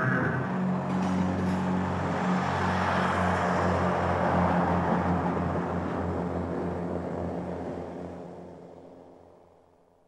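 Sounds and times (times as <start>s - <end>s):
train low hum: 0.0s - 8.1s.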